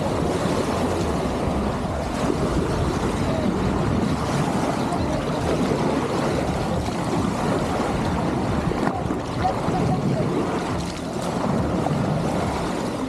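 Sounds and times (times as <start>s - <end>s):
boat engine drone: 0.0s - 13.0s
rushing water: 0.0s - 13.0s
wind on microphone: 0.0s - 13.0s.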